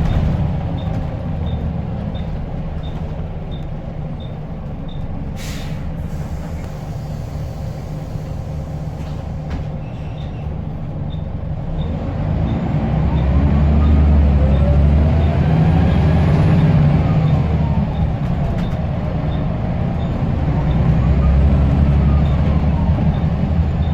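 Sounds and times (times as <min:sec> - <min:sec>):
bus engine droning: 0:00.0 - 0:23.9.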